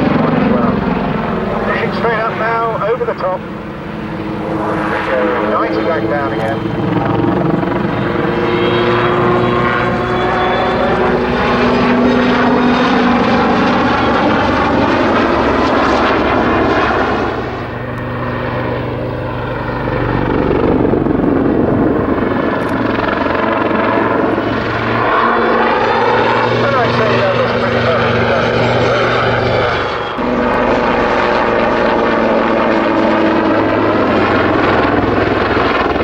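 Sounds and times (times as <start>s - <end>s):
helicopter rotor and engine hum: 0.0s - 36.0s.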